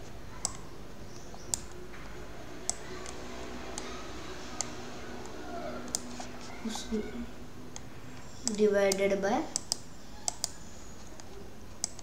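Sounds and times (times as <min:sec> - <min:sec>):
faint steady hum: 0:00.0 - 0:12.0
computer mouse clicking: 0:00.4 - 0:06.6, 0:07.7 - 0:12.0.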